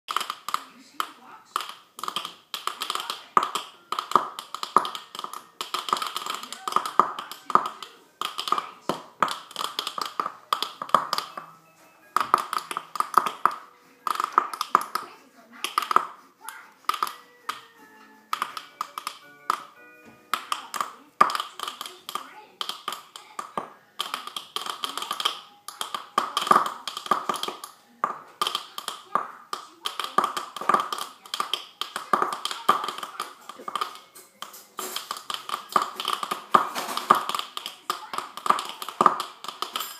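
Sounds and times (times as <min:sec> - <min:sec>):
computer popping and crackling: 0:00.0 - 0:11.5, 0:12.2 - 0:39.9.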